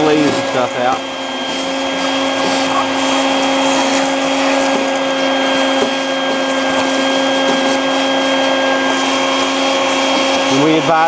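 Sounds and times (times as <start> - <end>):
vacuum whining: 0.0 - 11.0.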